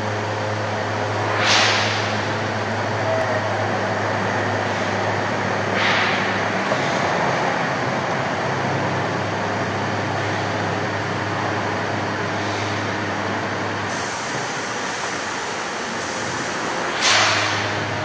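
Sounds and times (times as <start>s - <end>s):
welding machine humming and hissing: 0.0s - 18.0s.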